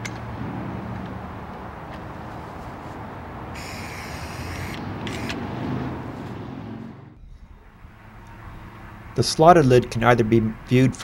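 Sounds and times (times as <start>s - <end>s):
passing road vehicle rumble: 0.0s - 11.0s.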